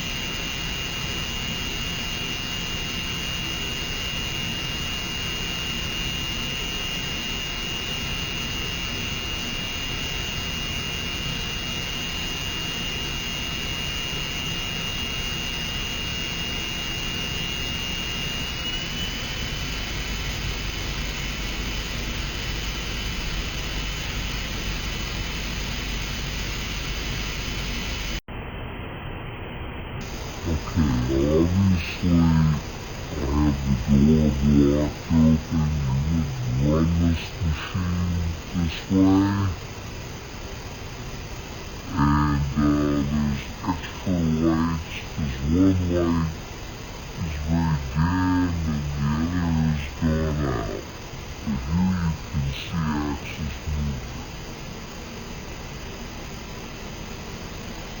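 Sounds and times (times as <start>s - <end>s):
machine whirring with high whine: 0.0s - 58.0s.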